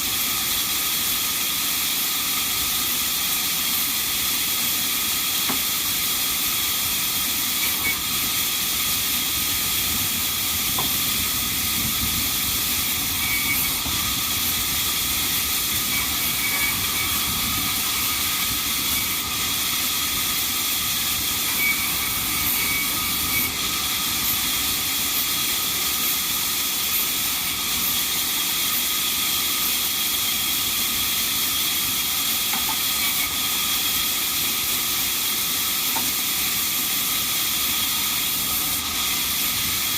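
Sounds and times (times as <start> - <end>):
band saw cutting timber: 0.0 - 39.9.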